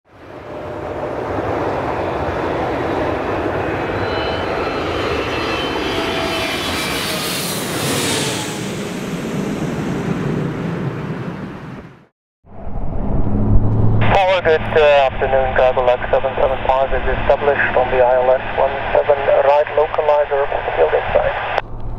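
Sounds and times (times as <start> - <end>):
jet airliner roar overhead: 0.1 - 21.9.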